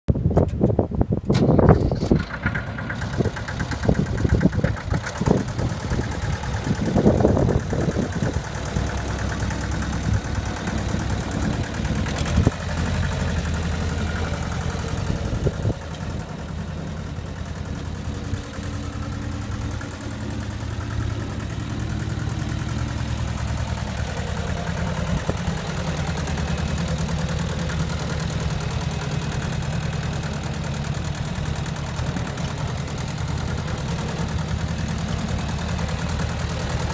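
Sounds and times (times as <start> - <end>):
tractor diesel engine idling: 0.9 - 36.9.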